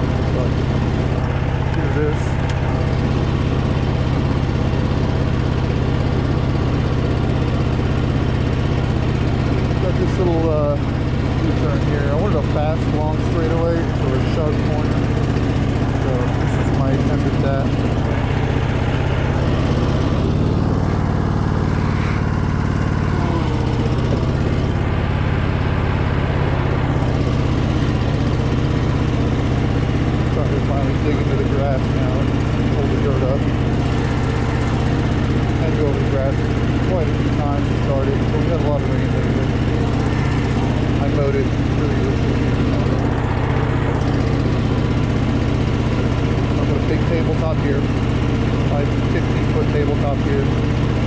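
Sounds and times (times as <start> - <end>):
small engine running steadily: 0.0 - 51.0.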